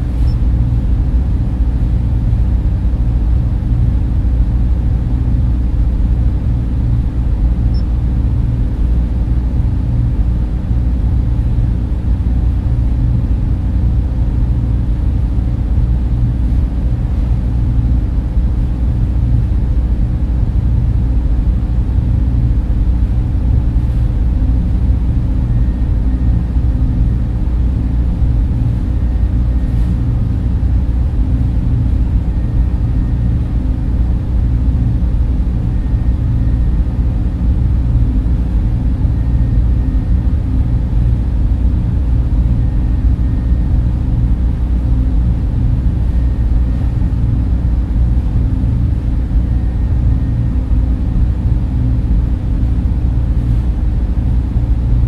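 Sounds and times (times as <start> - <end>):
faint hum tones: 0.0 - 55.0
server fans low rumble: 0.0 - 55.0.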